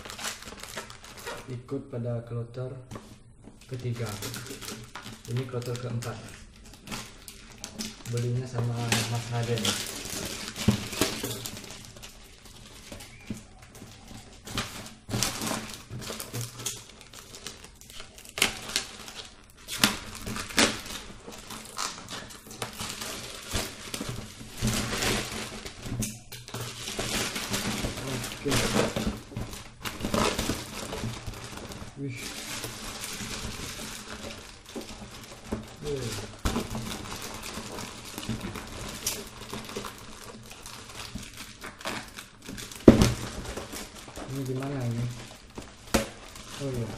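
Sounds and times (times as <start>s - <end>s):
plastic bag crinkling: 0.0s - 1.7s, 2.9s - 46.9s.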